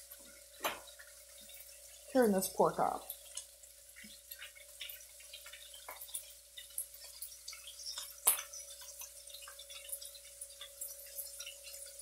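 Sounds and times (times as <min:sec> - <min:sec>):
crackles and pops: 0:00.0 - 0:12.0
meat sizzling in a pan: 0:00.0 - 0:12.0.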